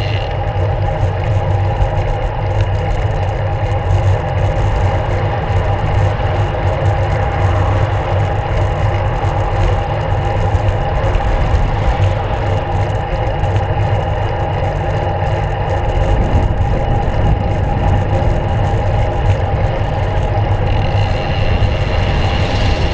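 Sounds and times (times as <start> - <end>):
car traffic: 0.0 - 22.9
wind rumble on microphone: 0.0 - 22.9.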